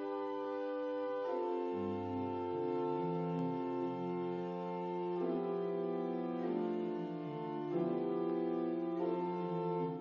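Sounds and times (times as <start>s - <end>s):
pipe organ playing chords: 0.0s - 10.0s.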